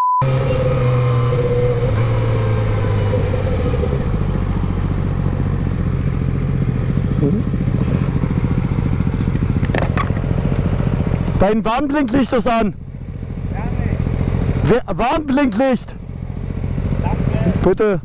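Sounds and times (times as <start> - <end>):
motorcycle engine running at low revs: 0.2 - 15.2, 15.9 - 18.0.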